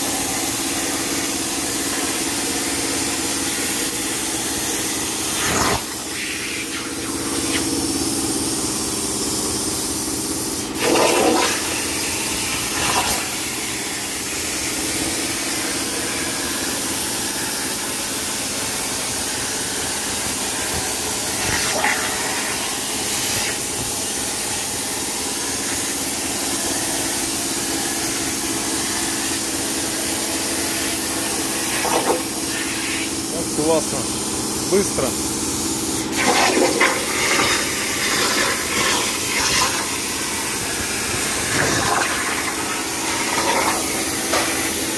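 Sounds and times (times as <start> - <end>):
plasma arc hissing: 0.0 - 44.9.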